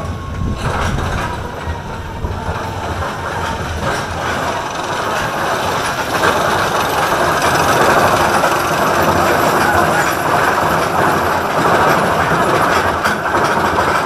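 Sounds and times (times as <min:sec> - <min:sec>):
roller coaster lift chain clattering: 0:00.0 - 0:14.0.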